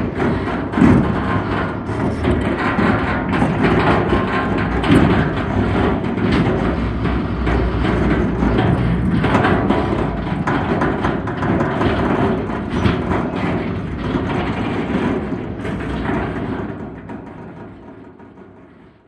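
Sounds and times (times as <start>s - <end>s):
track plates clanking and creaking: 0.0s - 18.6s
heavy rumble of tracks: 0.0s - 19.0s.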